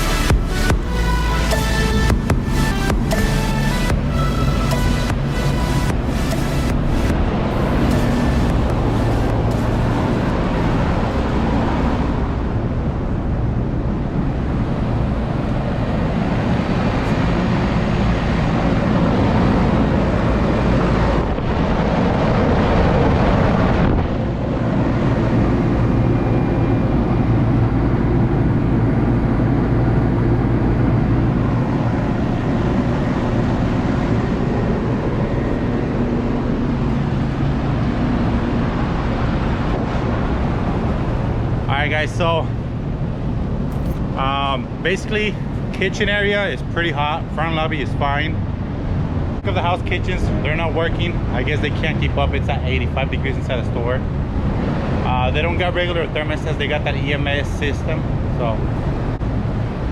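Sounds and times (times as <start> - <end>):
vehicle road and engine noise: 0.0 - 59.9.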